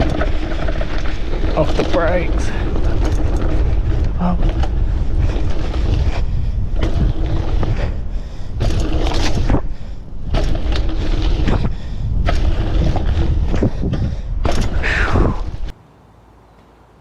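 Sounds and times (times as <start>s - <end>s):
tyres rolling on dirt: 0.0s - 15.7s
wind rushing over microphone: 0.0s - 15.8s.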